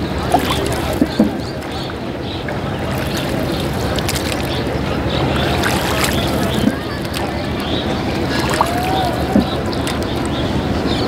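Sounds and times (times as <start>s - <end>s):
water rumbling: 0.0s - 11.0s
wind: 0.0s - 11.0s.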